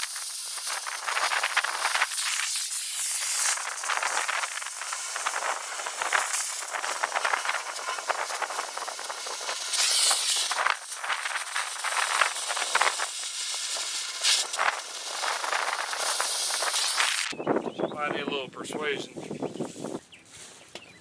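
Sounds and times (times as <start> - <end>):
cutting torch hissing: 0.0 - 17.4
molten slag crackling: 0.0 - 17.4.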